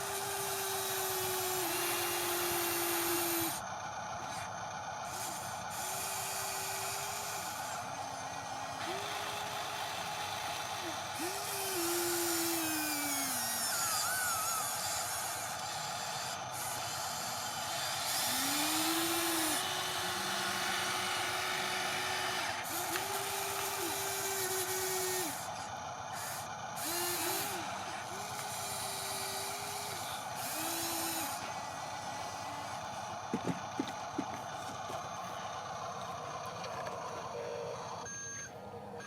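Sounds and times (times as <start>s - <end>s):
electric motors whining: 0.0s - 39.0s.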